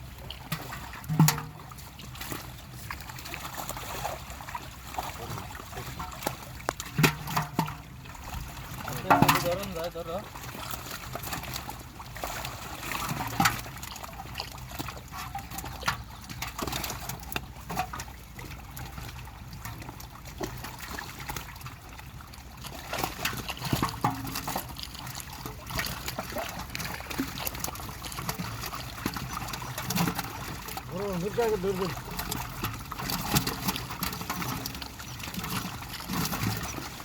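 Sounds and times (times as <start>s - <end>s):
pond water splashing: 0.0s - 37.0s.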